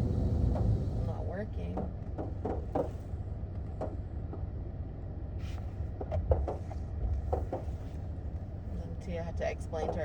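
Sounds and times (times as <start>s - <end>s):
car engine rumble from cabin: 0.0s - 10.0s.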